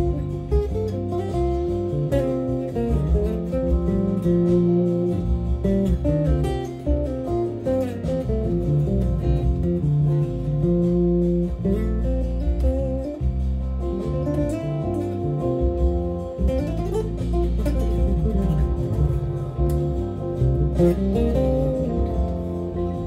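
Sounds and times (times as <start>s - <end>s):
plucked string instrument music: 0.0s - 23.0s.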